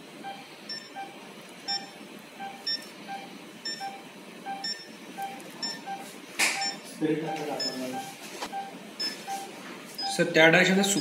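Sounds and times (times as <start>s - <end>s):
low monitor beep: 0.2s - 10.3s
high monitor beep: 0.2s - 10.4s.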